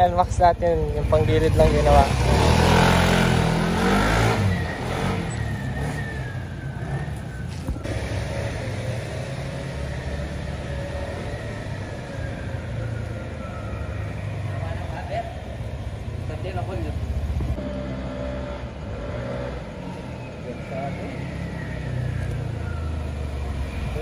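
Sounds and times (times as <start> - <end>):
scooter engine pulling away: 1.2 - 24.0.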